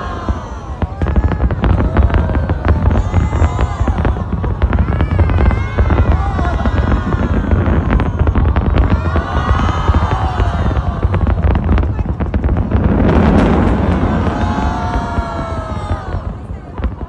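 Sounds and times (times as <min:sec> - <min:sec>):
fireworks bangs and crackles: 0:00.0 - 0:17.0
whistling fireworks: 0:00.0 - 0:17.0
low rumble: 0:01.6 - 0:16.5.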